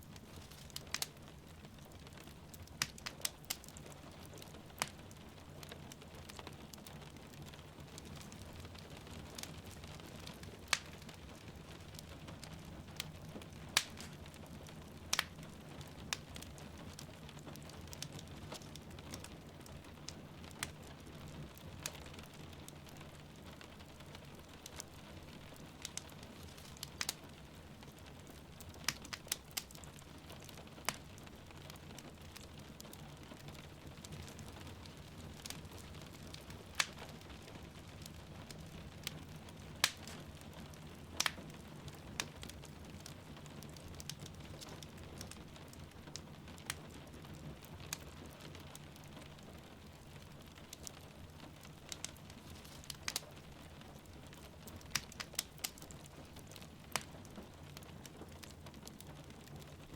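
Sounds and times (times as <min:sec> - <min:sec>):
rain pattering: 0:00.0 - 0:59.9
wood fire crackling and popping: 0:00.0 - 0:59.9.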